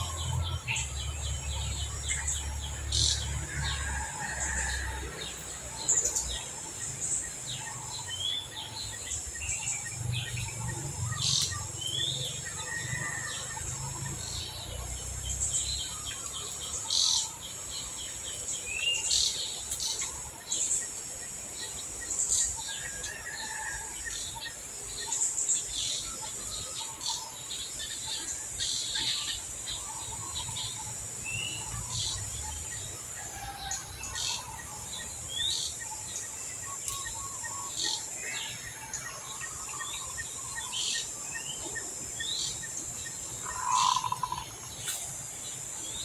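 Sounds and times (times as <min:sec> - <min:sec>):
high insect drone: 0:00.0 - 0:46.0
bird chirps and calls: 0:05.8 - 0:46.0.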